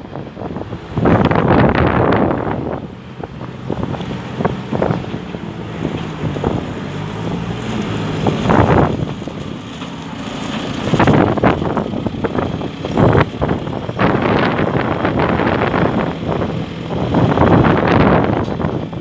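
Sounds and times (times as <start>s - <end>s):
diesel engine running: 0.0s - 19.0s
wind buffeting microphone: 0.0s - 19.0s.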